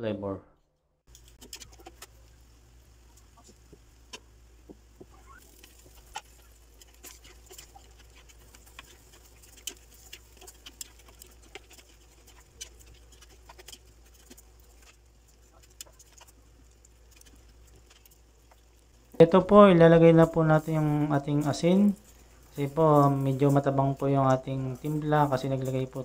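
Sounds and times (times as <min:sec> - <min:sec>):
low steady hum: 0:01.1 - 0:26.0
sauce simmering and popping: 0:01.1 - 0:26.0
utensils stirring in pan: 0:01.1 - 0:26.0.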